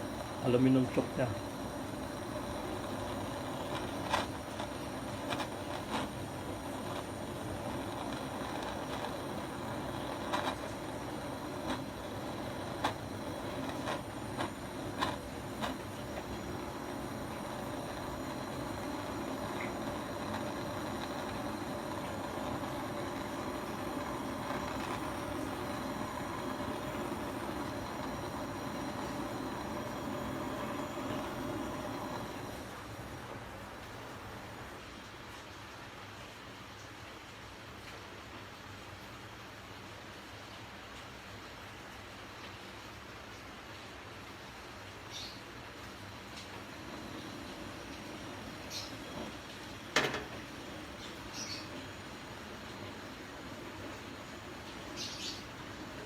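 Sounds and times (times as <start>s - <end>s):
gas torch flame hissing: 0.0s - 34.8s, 45.1s - 56.0s.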